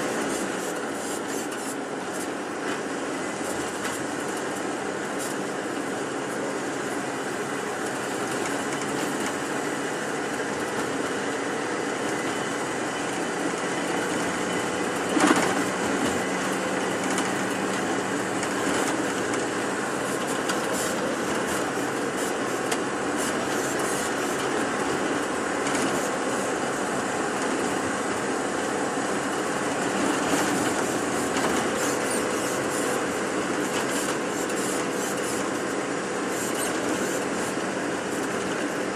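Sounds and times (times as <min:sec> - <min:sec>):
bus engine and road noise: 0:00.0 - 0:38.9.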